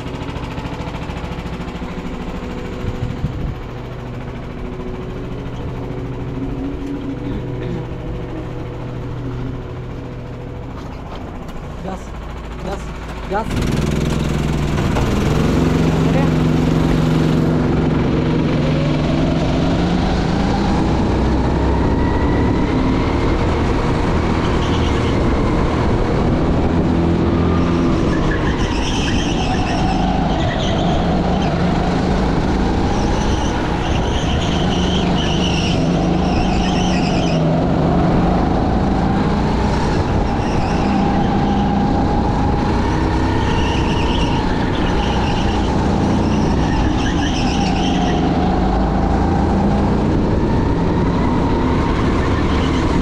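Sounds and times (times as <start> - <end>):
go-kart engines racing: 0.0 - 53.0.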